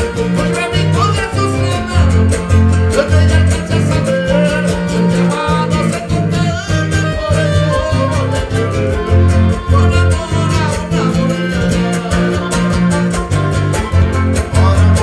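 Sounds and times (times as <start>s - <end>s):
live band playing folk music: 0.0s - 15.0s
plucked guitar strings: 0.0s - 15.0s
pulsing bass line: 0.0s - 15.0s.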